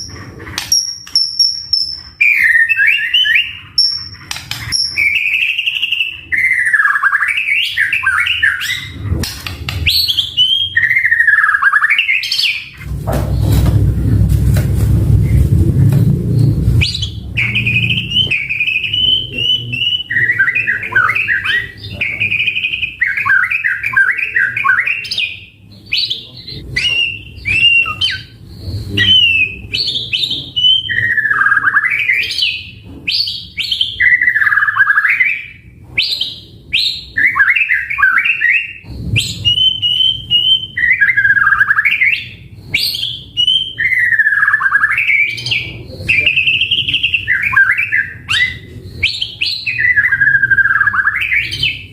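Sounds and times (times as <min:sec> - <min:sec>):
bird singing whistled phrases: 0:00.0 - 0:09.0, 0:09.9 - 0:12.8, 0:16.8 - 0:51.9.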